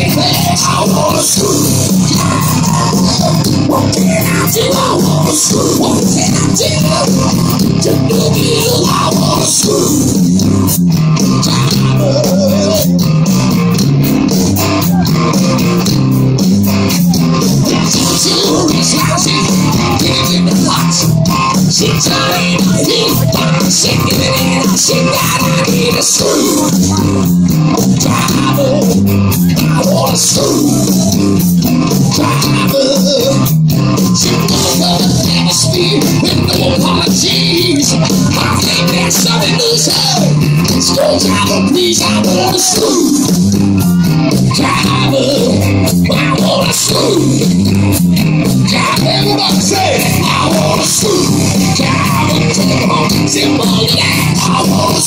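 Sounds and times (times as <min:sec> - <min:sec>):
bass guitar: 0:00.0 - 0:55.0
drums: 0:00.0 - 0:55.0
electric guitars: 0:00.0 - 0:55.0
live hard rock band: 0:00.0 - 0:55.0.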